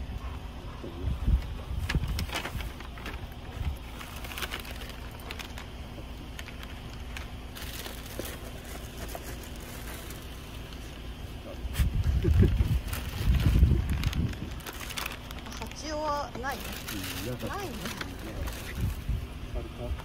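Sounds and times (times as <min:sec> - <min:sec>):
low rumble: 0:00.0 - 0:20.0
paper bag rustling: 0:01.8 - 0:10.9, 0:11.8 - 0:19.2.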